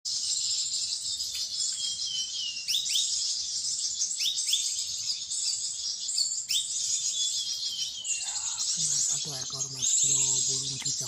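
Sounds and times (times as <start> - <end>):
songbird chattering: 0.1 - 11.0.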